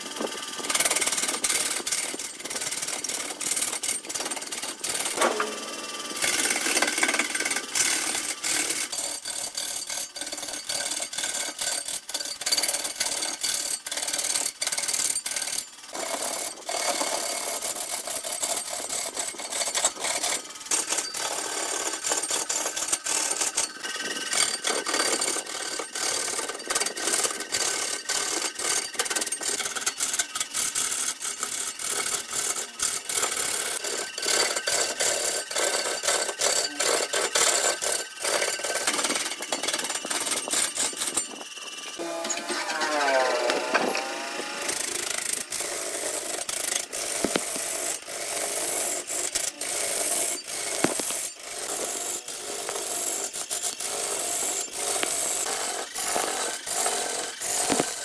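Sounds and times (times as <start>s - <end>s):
wood lathe cutting wood: 0.0s - 58.0s
rapid irregular clicks and rattles: 0.1s - 42.0s, 44.7s - 58.0s.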